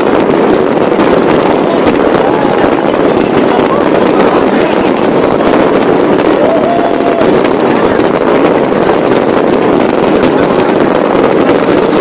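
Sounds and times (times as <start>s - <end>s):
firework whistle: 0.0s - 12.0s
fireworks crackling and bursting: 0.0s - 12.0s
large crowd noise: 0.0s - 12.0s.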